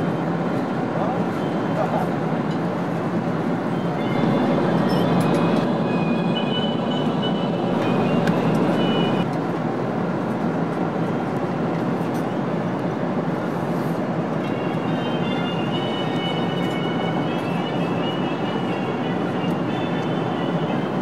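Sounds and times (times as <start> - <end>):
airliner cabin noise: 0.0 - 21.0
jet engine noise: 0.0 - 21.0.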